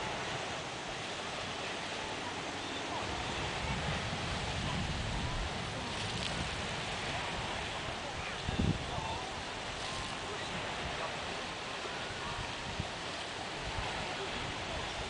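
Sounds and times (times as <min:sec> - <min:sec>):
waves on shore: 0:00.0 - 0:15.0
wind: 0:00.0 - 0:15.0
wind gusts on microphone: 0:00.0 - 0:15.0.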